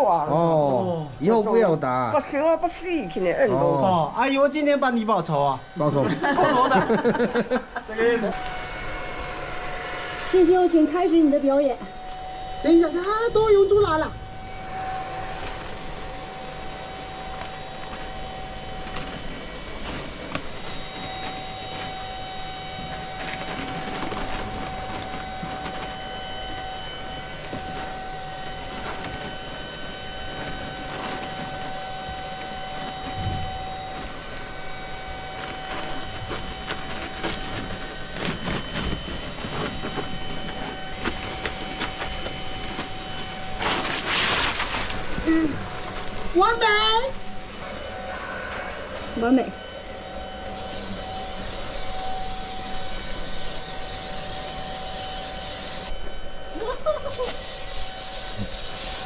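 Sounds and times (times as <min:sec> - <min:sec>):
vacuum cleaner whining: 0:00.0 - 0:59.0.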